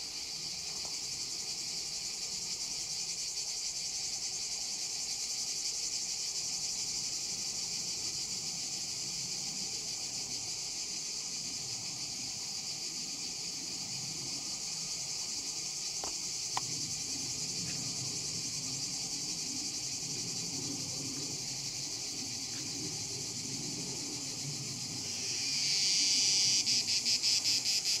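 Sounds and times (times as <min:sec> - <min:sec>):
insects trilling: 0:00.0 - 0:28.0
pulsing insect call: 0:00.0 - 0:28.0.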